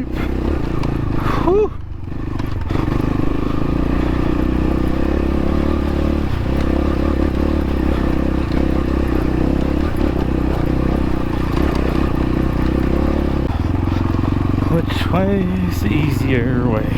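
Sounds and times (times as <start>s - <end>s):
dirt bike engine at low revs: 0.0s - 16.9s.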